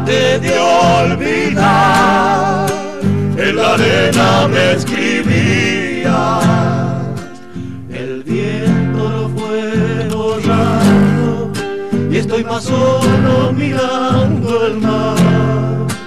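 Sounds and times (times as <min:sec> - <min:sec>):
men singing with vibrato: 0:00.0 - 0:16.0
strummed acoustic guitars: 0:00.0 - 0:16.0.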